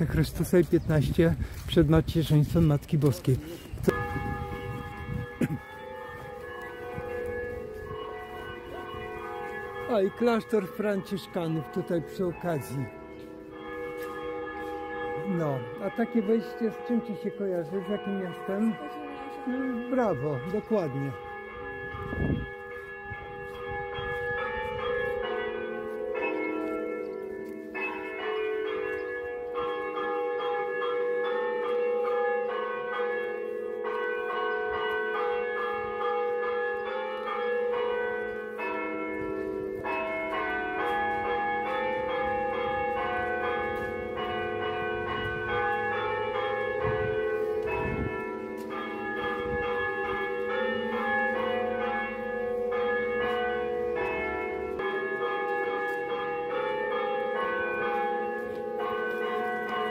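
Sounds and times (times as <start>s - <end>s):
church bells ringing: 0.0s - 59.9s.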